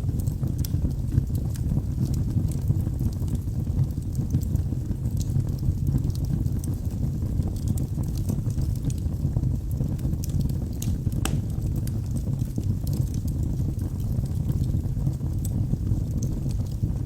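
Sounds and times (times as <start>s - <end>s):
logs crackling and popping: 0.0s - 17.0s
roar of flames: 0.0s - 17.0s.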